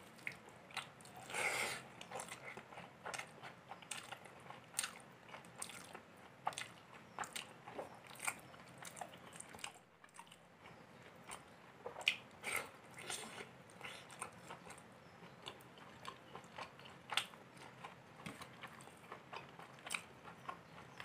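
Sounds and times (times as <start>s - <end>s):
chewing and mouth smacks: 2.0s - 21.0s.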